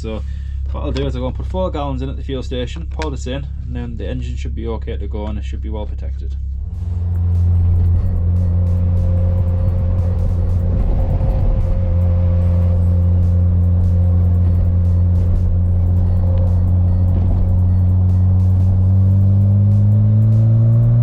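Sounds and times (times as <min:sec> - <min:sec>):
music: 0:00.0 - 0:04.8, 0:06.0 - 0:21.0
rotary engine droning: 0:00.0 - 0:21.0.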